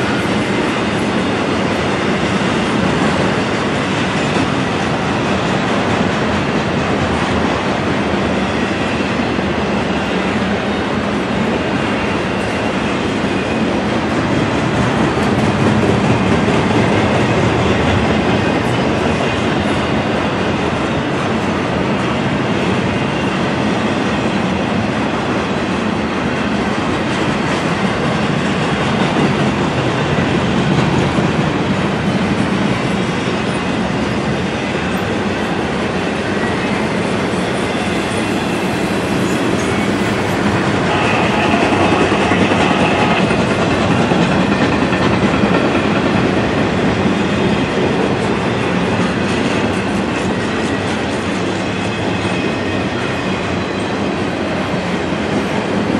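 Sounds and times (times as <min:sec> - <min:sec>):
train wheels clacking on rails: 0:00.0 - 0:55.9.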